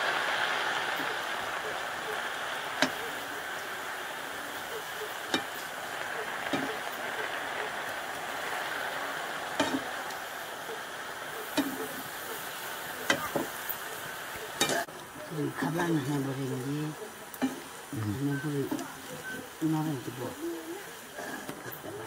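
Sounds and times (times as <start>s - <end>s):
greens sizzling in a pan: 0.0s - 22.0s.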